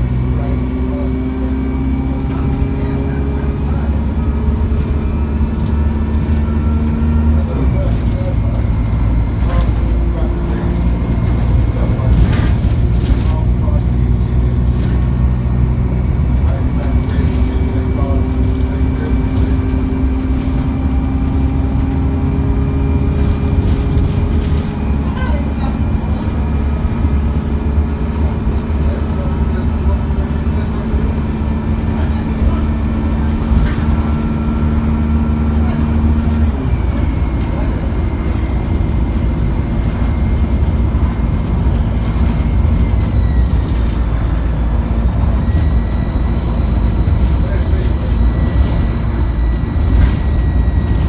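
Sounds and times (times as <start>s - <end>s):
bus engine rumble: 0.0s - 51.0s
high-pitched turbo whine: 0.0s - 51.0s.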